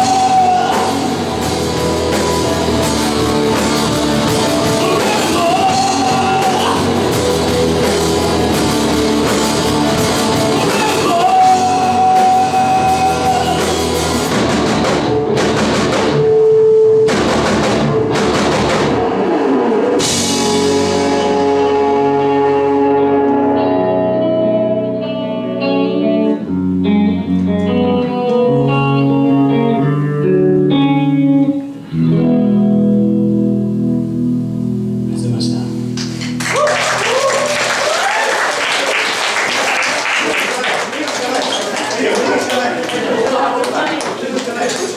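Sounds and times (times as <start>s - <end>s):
electric guitar lead notes: 0.0s - 37.5s
live rock band playing: 0.0s - 42.5s.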